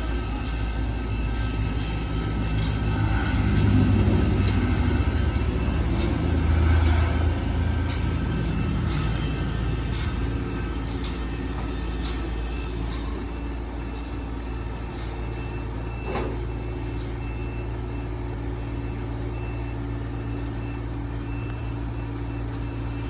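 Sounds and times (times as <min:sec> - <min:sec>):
harvester engine running: 0:00.0 - 0:23.0.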